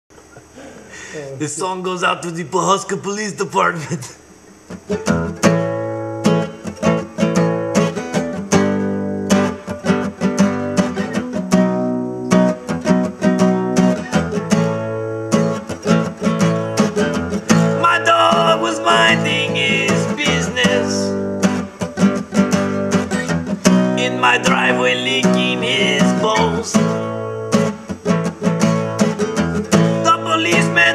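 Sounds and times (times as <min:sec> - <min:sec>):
acoustic guitar strumming: 0:01.6 - 0:30.9.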